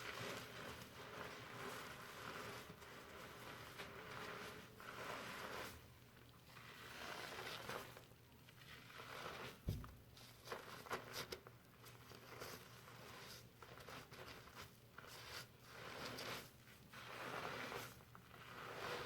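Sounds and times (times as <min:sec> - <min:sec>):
shampoo lather squishing in hair: 0:00.0 - 0:19.0.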